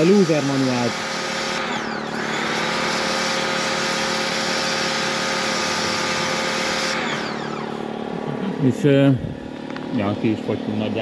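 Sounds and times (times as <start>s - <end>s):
pressure washer motor whine: 0.0s - 10.9s.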